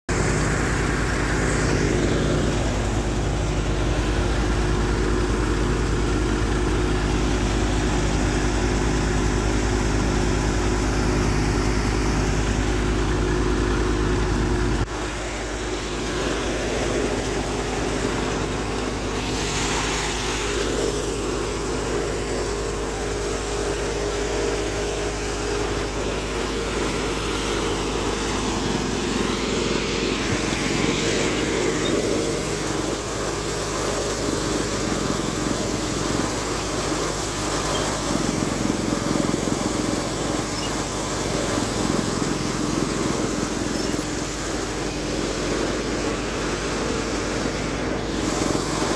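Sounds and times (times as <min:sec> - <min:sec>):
rush of grain: 0:00.1 - 0:48.9
thresher rumble: 0:00.1 - 0:48.9
tractor diesel engine running: 0:00.1 - 0:48.9.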